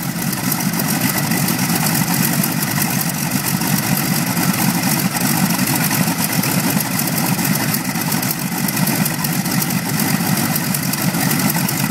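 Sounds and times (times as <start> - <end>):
radial engine idling: 0.0 - 11.9.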